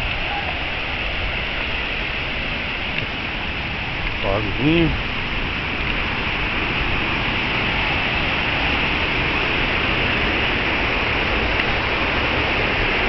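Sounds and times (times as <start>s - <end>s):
waterfall rushing water: 0.0s - 13.0s.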